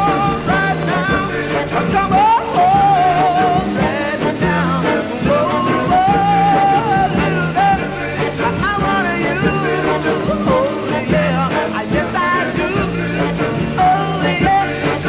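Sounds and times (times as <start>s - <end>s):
rock and roll record playing: 0.0s - 15.0s.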